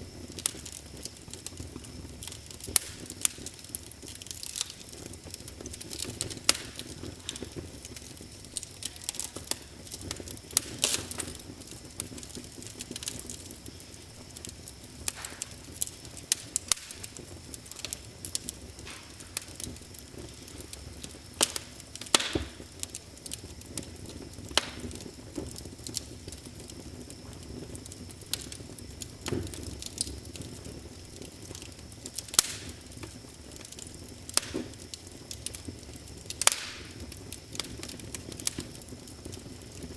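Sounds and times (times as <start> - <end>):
low steady hiss: 0.0 - 39.9
wood fire crackling: 0.0 - 39.9.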